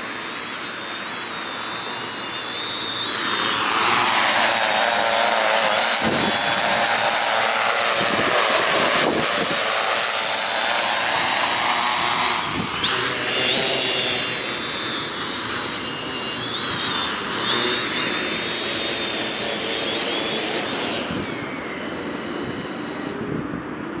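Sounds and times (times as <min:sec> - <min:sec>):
drone motors whirring: 0:00.0 - 0:24.0
high motor whine: 0:00.0 - 0:24.0.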